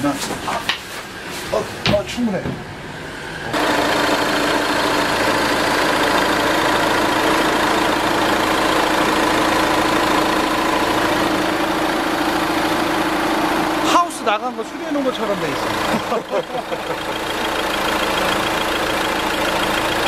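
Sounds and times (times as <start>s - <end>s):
diesel engine idling: 1.0s - 20.0s.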